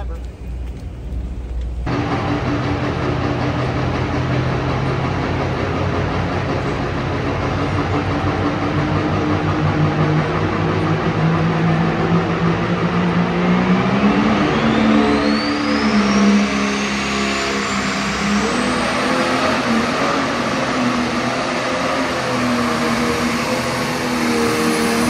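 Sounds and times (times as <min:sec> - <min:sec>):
diesel tractor engine running: 0:00.0 - 0:25.0
thin rising whine: 0:01.9 - 0:25.0.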